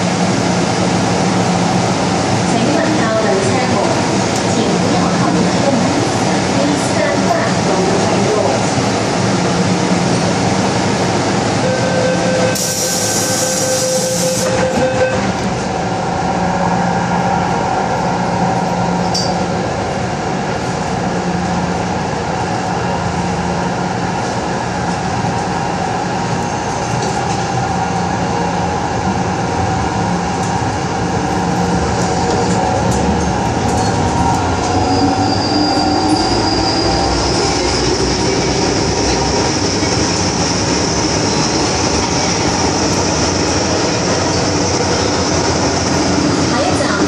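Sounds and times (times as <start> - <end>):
train motors and wheels running: 0.0 - 47.0.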